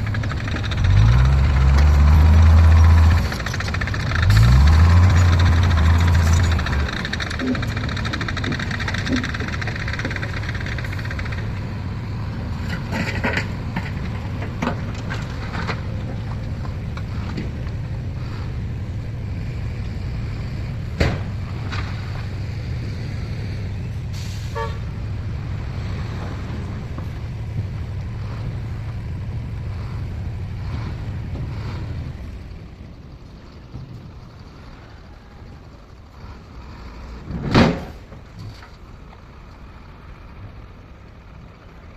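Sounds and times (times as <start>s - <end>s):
heavy machinery engines rumbling: 0.0s - 41.9s.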